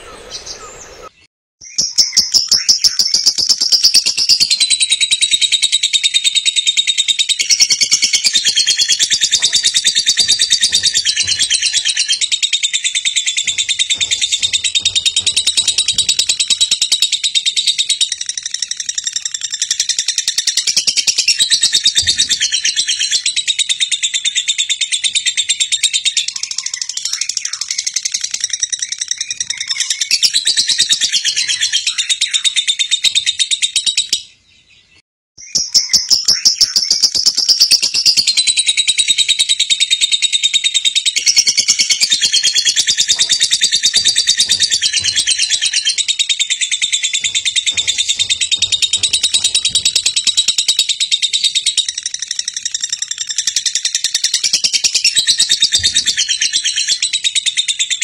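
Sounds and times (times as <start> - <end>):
bird chattering and trilling: 0.0 - 34.1, 35.4 - 58.0.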